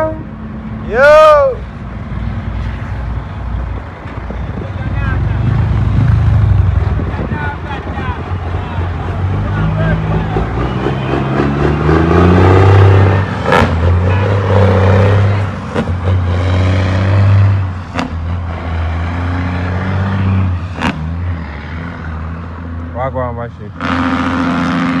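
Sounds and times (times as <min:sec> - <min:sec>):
diesel truck accelerating: 0:00.0 - 0:25.0.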